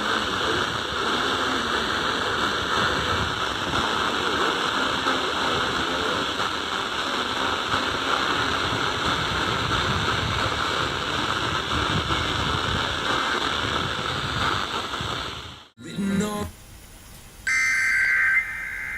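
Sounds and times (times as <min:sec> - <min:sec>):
radio static hiss: 0:00.0 - 0:18.9.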